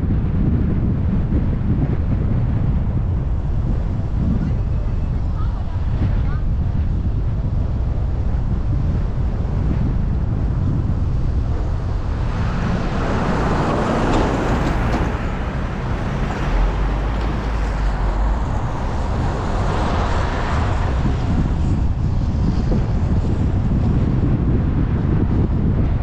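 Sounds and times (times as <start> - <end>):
road noise: 0.0 - 26.0
wind buffeting microphone: 0.0 - 26.0.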